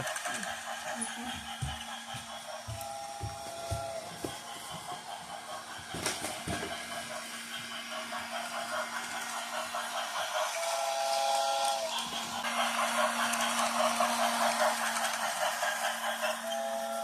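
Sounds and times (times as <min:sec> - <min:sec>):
toy train motor humming: 0:00.0 - 0:17.0
train rattling on track: 0:00.0 - 0:17.0.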